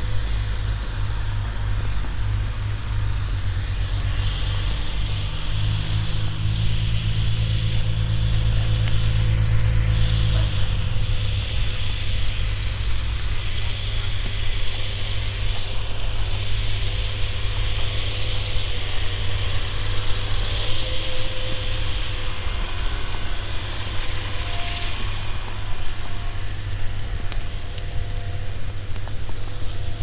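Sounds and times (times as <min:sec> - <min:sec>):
low rumble: 0:00.0 - 0:30.0
street noise hiss: 0:00.0 - 0:30.0
vehicle engine hum: 0:00.0 - 0:30.0.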